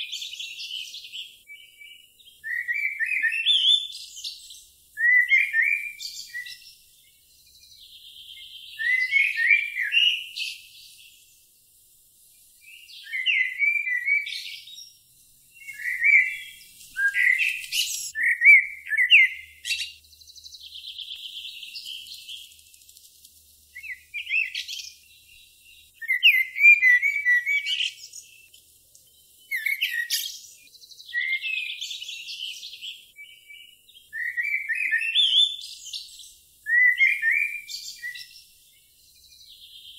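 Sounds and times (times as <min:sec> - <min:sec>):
buzzy bird trill: 0:00.0 - 0:11.4, 0:12.4 - 0:28.6, 0:29.3 - 0:39.9
songbird chirping: 0:00.0 - 0:39.9.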